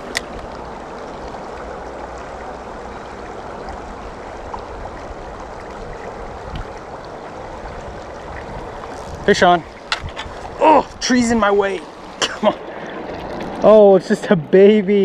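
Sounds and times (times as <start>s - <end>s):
creek water rushing over rocks: 0.0s - 14.5s.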